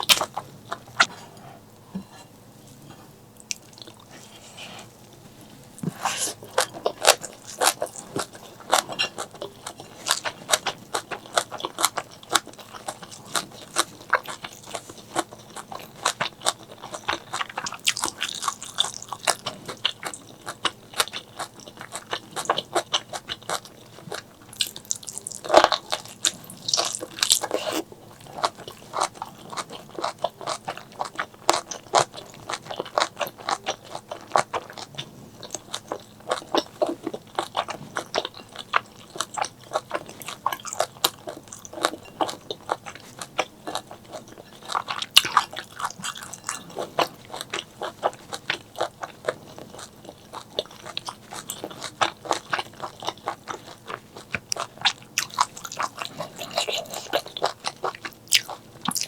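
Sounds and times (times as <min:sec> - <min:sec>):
crunchy chewing: 0:03.4 - 0:59.0.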